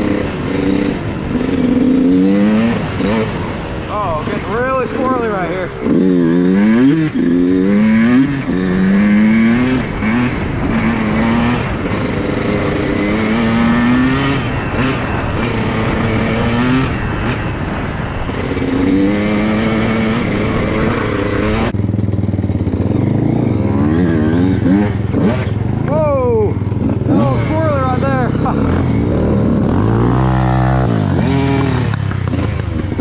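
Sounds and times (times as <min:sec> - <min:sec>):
off-road vehicle engine revving: 0:00.0 - 0:33.0.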